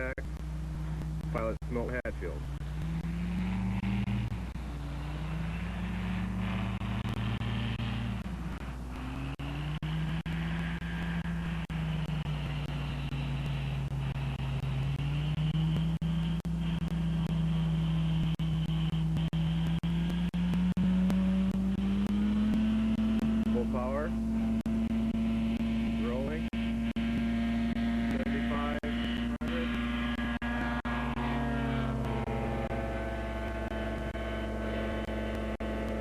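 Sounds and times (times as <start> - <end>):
two-stroke engine running: 0.0 - 36.0.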